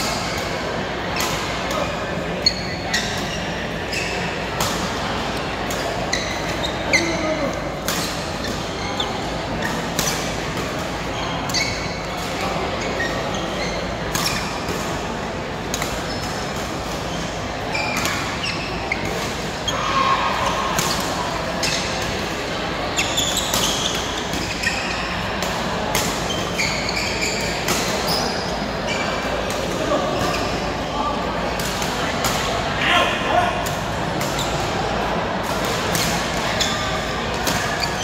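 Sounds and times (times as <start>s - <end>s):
badminton rackets hitting shuttlecocks: 0.0s - 12.4s, 13.0s - 19.7s, 20.3s - 22.3s, 23.0s - 28.7s, 31.5s - 32.6s, 35.4s - 38.0s.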